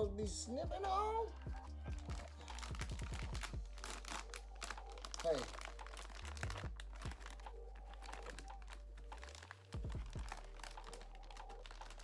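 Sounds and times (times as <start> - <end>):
plastic packaging crinkling: 1.8 - 12.0.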